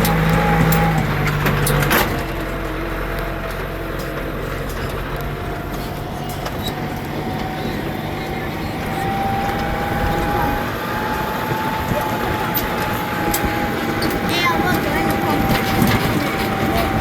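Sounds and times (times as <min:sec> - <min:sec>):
rattling clicks and knocks: 0:00.0 - 0:17.0
tractor engine running: 0:00.0 - 0:17.0.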